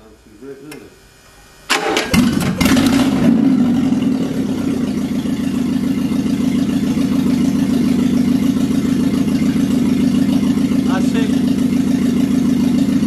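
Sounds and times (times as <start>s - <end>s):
car engine idling: 1.7s - 13.0s.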